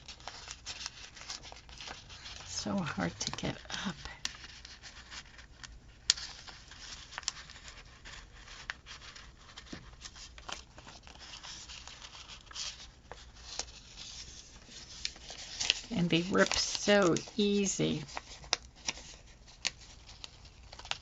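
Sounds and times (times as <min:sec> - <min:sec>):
paper scrapes and rustles: 0:00.0 - 0:21.0.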